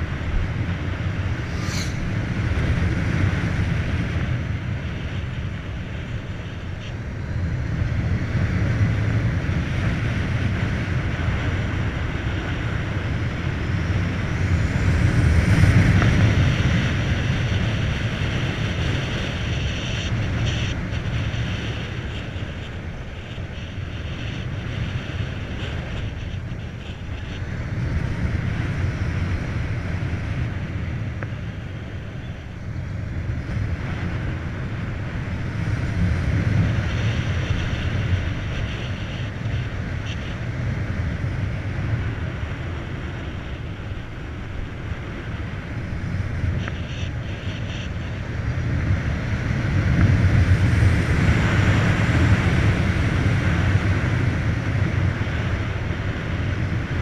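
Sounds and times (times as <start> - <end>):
motorcycle tyre noise: 0.0 - 57.0
wind rushing over microphone: 0.0 - 57.0.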